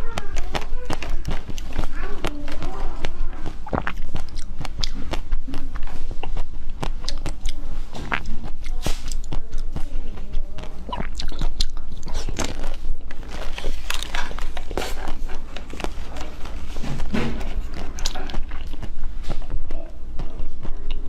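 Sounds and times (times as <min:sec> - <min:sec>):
crunchy food biting and chewing: 0:00.0 - 0:09.8, 0:10.8 - 0:19.5.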